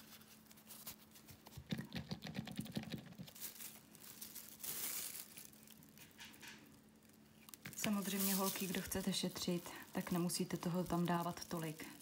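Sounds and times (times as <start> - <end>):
paper wipe rubbing and crinkling: 0.0 - 6.0, 7.4 - 12.0.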